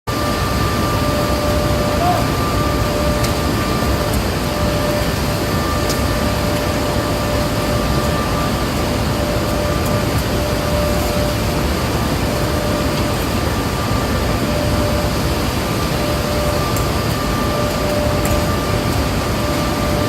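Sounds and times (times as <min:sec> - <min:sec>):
faint steady whine: 0:00.1 - 0:20.0
industrial machinery roar: 0:00.1 - 0:20.0.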